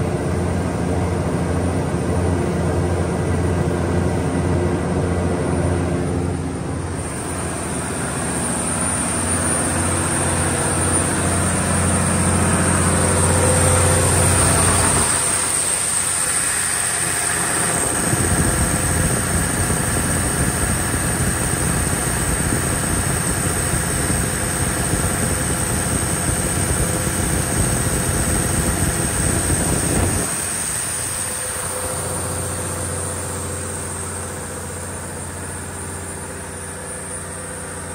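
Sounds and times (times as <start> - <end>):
diesel generator engine running: 0.0 - 37.9.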